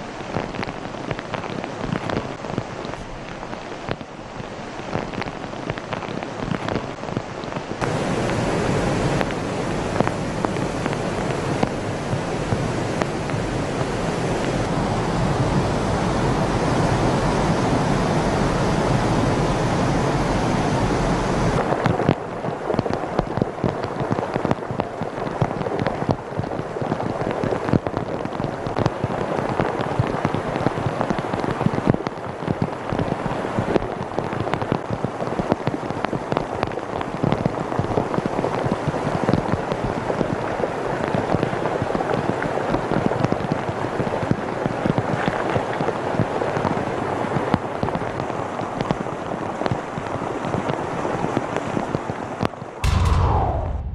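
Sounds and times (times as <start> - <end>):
floodwater rushing: 0.0 - 43.2
heavy rain drops popping: 0.0 - 53.9.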